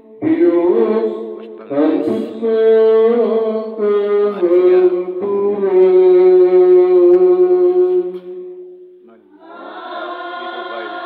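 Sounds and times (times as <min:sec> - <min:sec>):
steady low held tone: 0:00.0 - 0:09.4.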